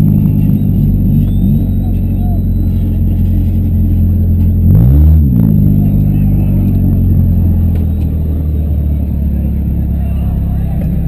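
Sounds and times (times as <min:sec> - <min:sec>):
car engines running: 0:00.0 - 0:11.0
engine revving: 0:00.0 - 0:11.0.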